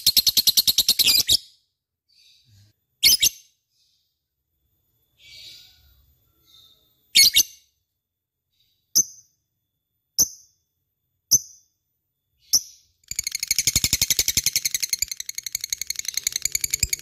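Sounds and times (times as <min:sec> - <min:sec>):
lovebird chirping: 0:00.0 - 0:04.0, 0:05.0 - 0:07.8, 0:08.6 - 0:10.6, 0:11.3 - 0:17.0.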